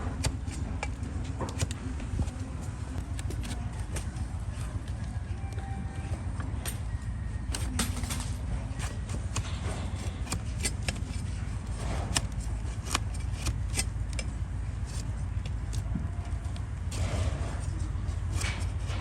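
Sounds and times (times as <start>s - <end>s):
scraping: 0.0s - 5.4s, 7.5s - 19.0s
blade cutting hoof: 0.0s - 5.7s, 6.5s - 19.0s.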